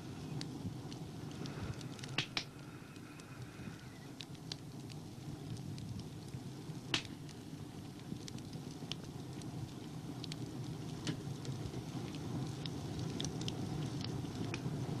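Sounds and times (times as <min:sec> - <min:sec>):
film crackles and clicks: 0:00.0 - 0:15.0.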